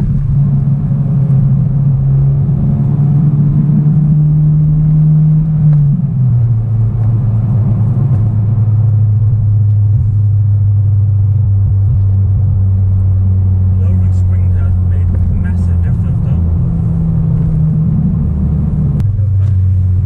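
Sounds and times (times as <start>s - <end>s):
car engine droning from inside: 0.0s - 20.0s.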